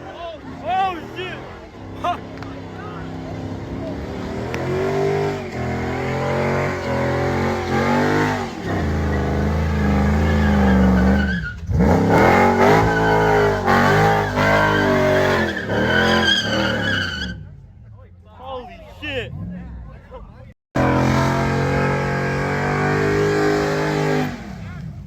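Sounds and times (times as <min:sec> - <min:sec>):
truck engine revving hard: 0:00.0 - 0:17.5, 0:20.8 - 0:25.0.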